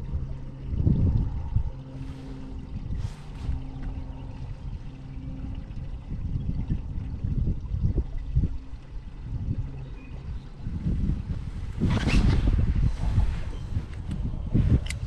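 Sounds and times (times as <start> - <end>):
boat motor humming: 0.0 - 15.0
water lapping against boat hull: 0.0 - 15.0.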